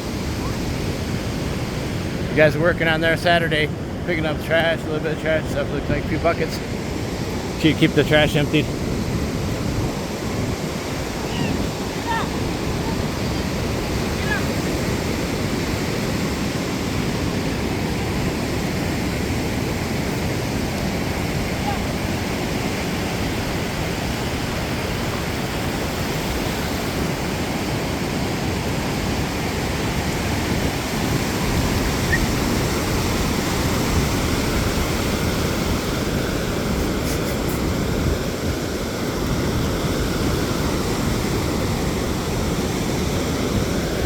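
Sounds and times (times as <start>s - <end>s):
ocean surf rushing: 0.0s - 44.0s.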